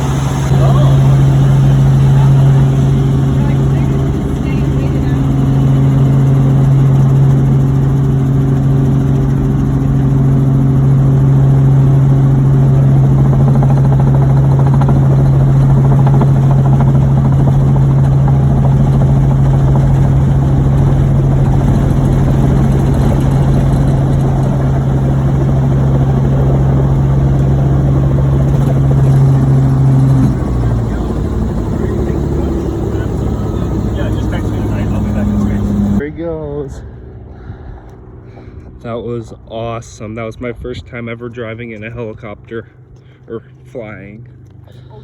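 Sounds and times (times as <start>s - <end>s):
helicopter engine and rotor drone: 0.0s - 45.0s.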